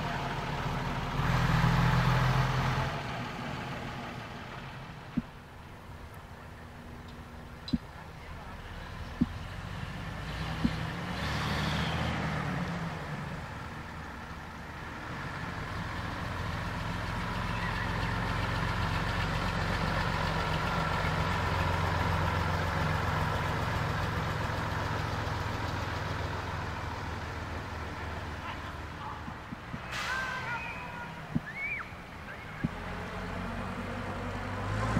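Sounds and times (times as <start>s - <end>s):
bus engine running: 0.0s - 34.9s.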